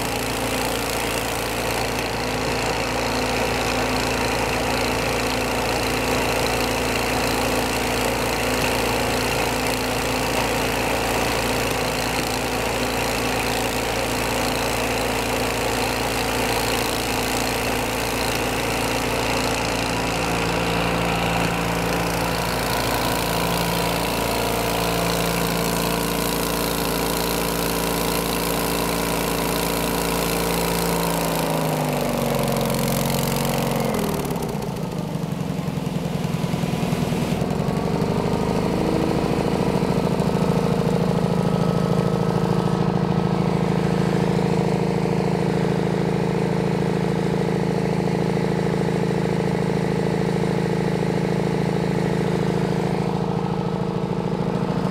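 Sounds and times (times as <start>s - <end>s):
small engine running: 0.0s - 54.9s.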